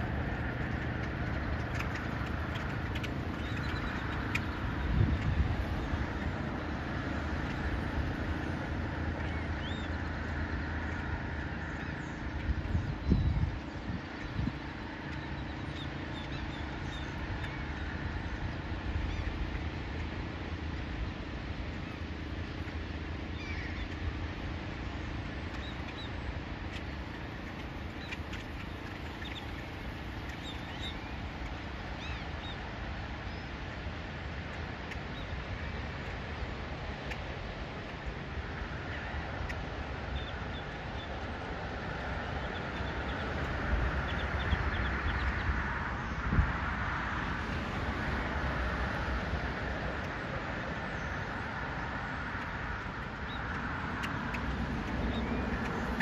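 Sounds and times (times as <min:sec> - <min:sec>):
low rumble and hiss: 0:00.0 - 0:56.0.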